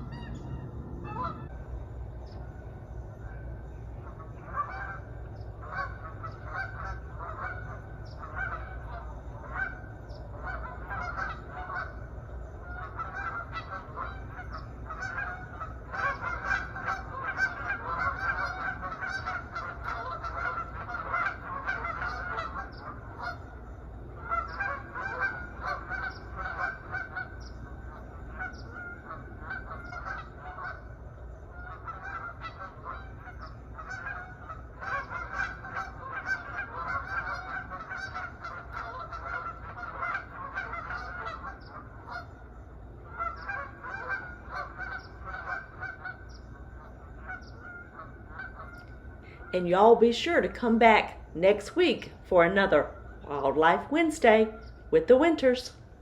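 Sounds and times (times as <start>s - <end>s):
geese honking: 0.0s - 55.7s
steady low rumble: 0.0s - 56.0s.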